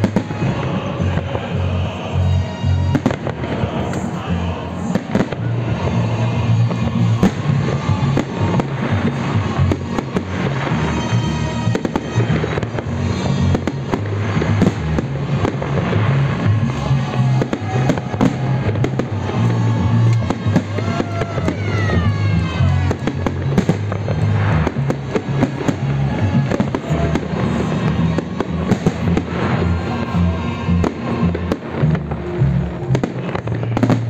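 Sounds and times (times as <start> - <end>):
crackling fireworks stars: 0.0 - 34.0
fireworks bursting: 0.0 - 34.0
music with pulsing bass: 0.0 - 34.0.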